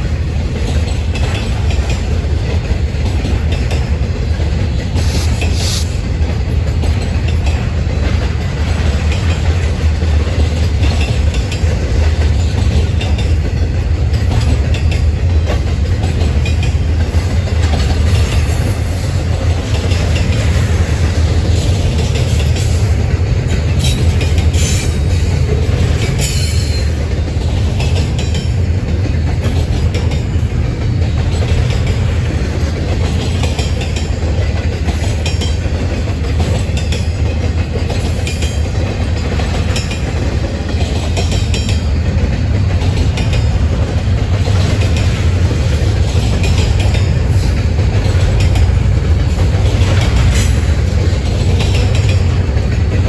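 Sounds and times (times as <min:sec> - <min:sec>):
train wheels rumbling on rail: 0:00.0 - 0:53.0
wheels clicking over rail joints: 0:00.0 - 0:53.0.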